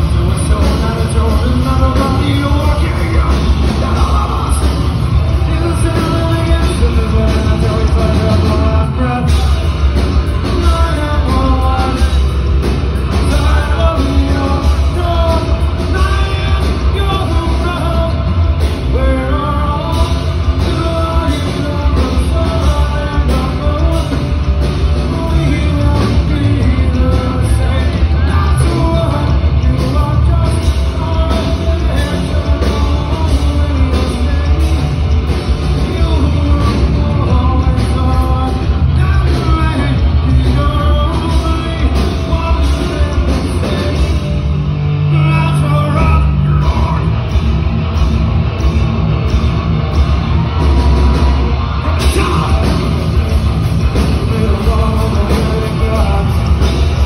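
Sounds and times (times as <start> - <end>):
person singing: 0.0 - 47.3, 50.6 - 57.0
live rock band playing: 0.0 - 57.0.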